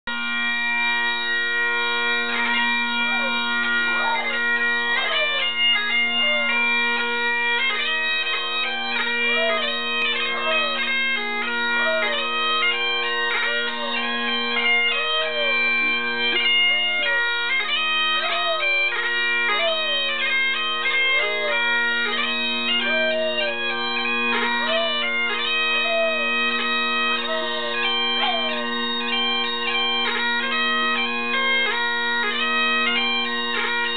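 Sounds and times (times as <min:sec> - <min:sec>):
bagpipes playing: 0:00.1 - 0:33.9
dog howling: 0:02.2 - 0:29.4.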